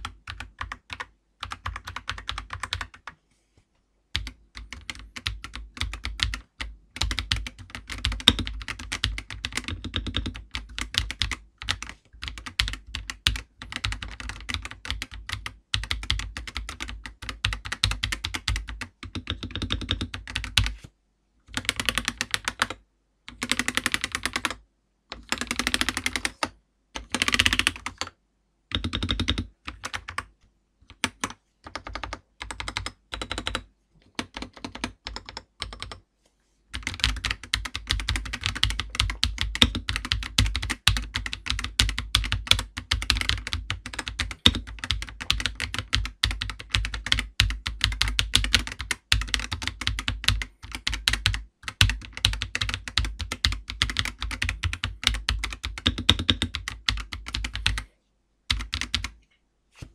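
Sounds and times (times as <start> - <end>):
mechanical keyboard typing: 0.0 - 3.2, 4.1 - 20.8, 21.5 - 28.1, 28.7 - 36.0, 36.7 - 57.9, 58.5 - 59.2.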